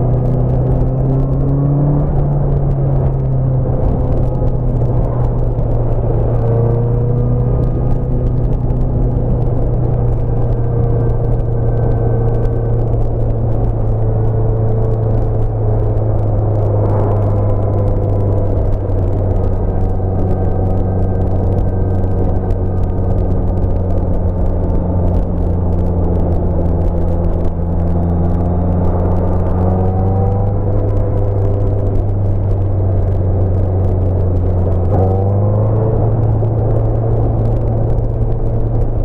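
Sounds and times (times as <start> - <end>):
motorcycle engine running: 0.0 - 39.0
wind rush: 0.0 - 39.0.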